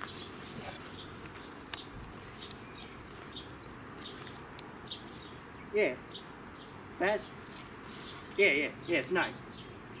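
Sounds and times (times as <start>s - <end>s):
small birds chirping: 0.0s - 10.0s
steady outdoor hiss: 0.0s - 10.0s.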